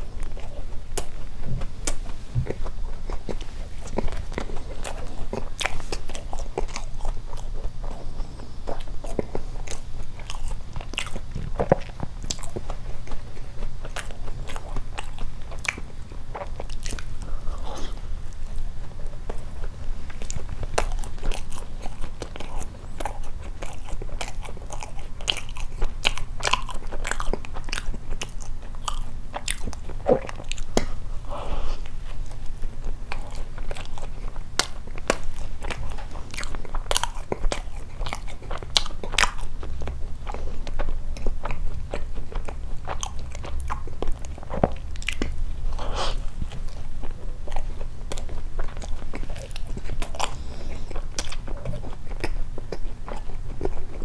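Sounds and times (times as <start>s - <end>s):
chewing doughnut: 0.0s - 54.0s.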